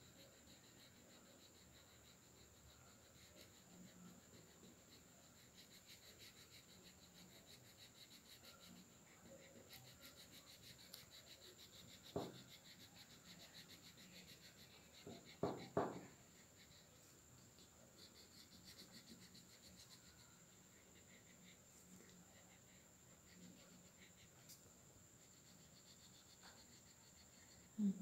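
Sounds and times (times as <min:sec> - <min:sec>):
crayon scratching on paper: 0:00.0 - 0:27.9.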